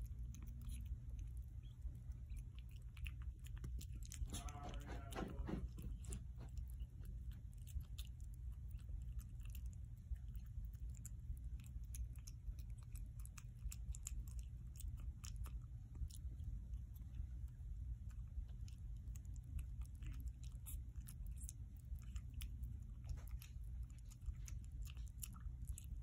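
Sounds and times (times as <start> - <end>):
puppy crunching dog food: 0.0 - 26.0.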